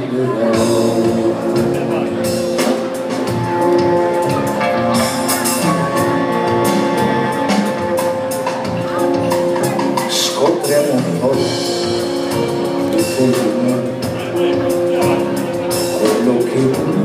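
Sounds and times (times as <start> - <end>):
drums marking the beat: 0.0 - 17.0
guitar: 0.0 - 17.0
live band playing pop music: 0.0 - 17.0.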